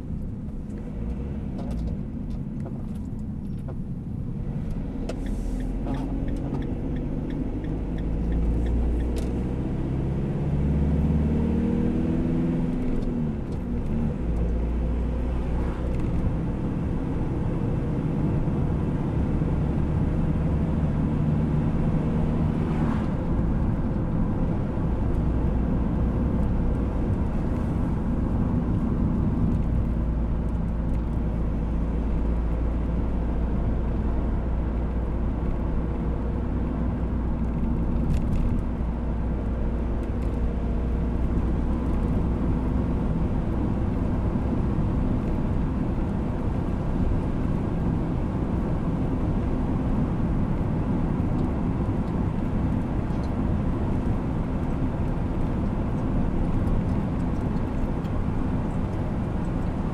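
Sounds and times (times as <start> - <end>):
vehicle engine and tyre noise: 0.0 - 59.9.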